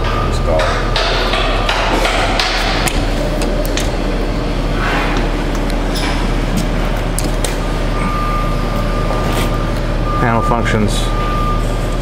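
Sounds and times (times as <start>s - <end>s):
industrial machinery humming: 0.0s - 12.0s.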